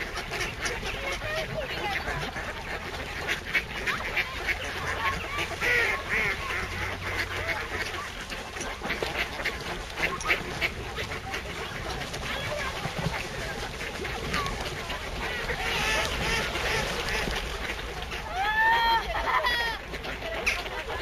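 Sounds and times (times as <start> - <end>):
flock of ducks quacking: 0.0 - 21.0.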